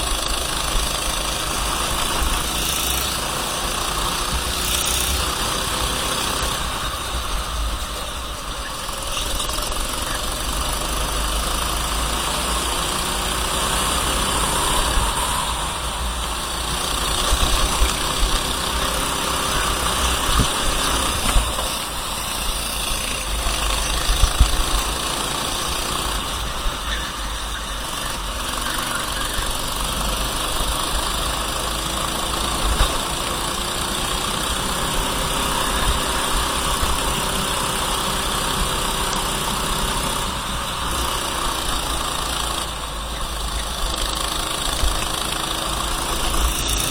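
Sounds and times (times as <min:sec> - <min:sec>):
kart engine revving: 0:00.0 - 0:46.9.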